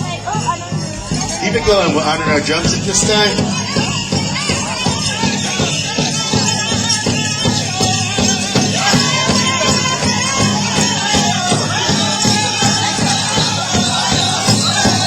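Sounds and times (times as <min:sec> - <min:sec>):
large drum steady beat: 0:00.0 - 0:15.0
singers singing high: 0:00.0 - 0:15.0.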